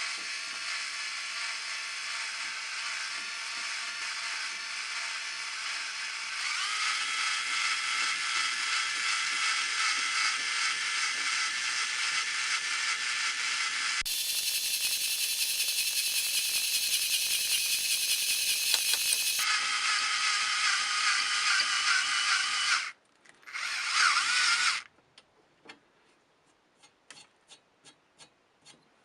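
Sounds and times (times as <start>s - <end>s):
small electric motor whining: 0.0s - 24.9s.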